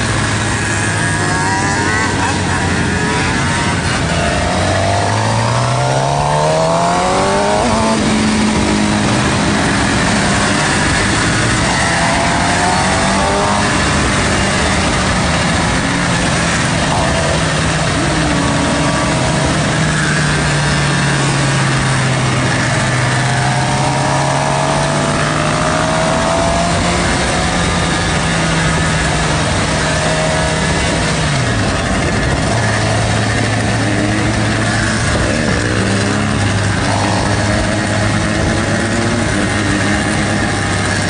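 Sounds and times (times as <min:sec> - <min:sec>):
motorcycle engine accelerating: 0:00.0 - 0:41.0
wind rush on microphone: 0:00.0 - 0:41.0.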